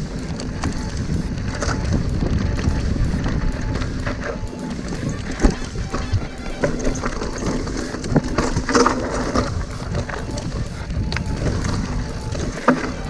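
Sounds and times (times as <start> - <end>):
bike rattling and knocking: 0.0 - 13.0
bike tyres on dirt trail: 0.0 - 13.0
wind buffeting microphone: 0.0 - 13.0.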